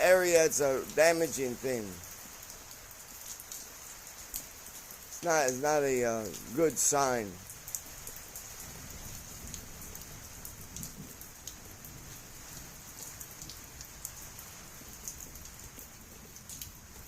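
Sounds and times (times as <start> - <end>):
heavy rain falling: 0.0 - 17.0
sharp drips: 0.0 - 17.0.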